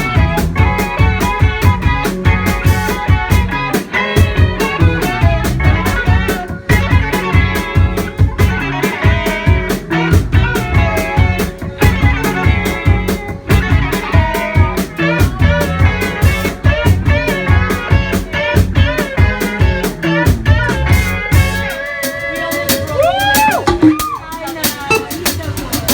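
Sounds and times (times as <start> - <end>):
guitar lines: 0.0 - 25.9
steady drum beat: 0.0 - 25.9.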